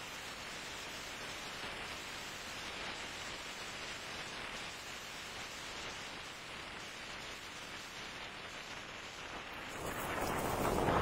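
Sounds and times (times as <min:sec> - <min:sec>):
dust storm hissing rush: 0:00.0 - 0:11.0.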